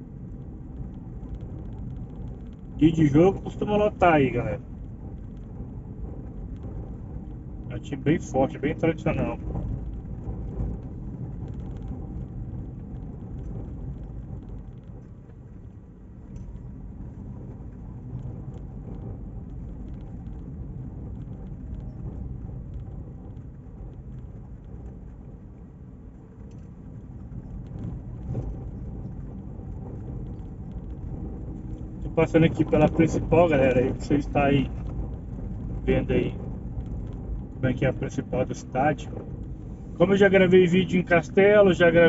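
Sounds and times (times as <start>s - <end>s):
car engine and tyre noise: 0.0s - 42.0s.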